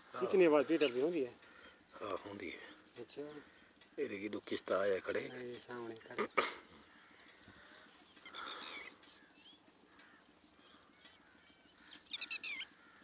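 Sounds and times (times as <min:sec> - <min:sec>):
birds chirping: 0:00.0 - 0:13.0
high bird calls: 0:00.1 - 0:04.0, 0:05.1 - 0:13.0.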